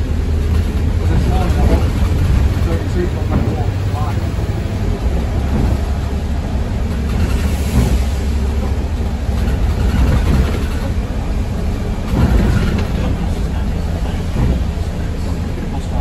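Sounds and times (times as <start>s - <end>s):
bus engine and road rumble: 0.0s - 16.0s
rattling cabin noise: 0.0s - 16.0s.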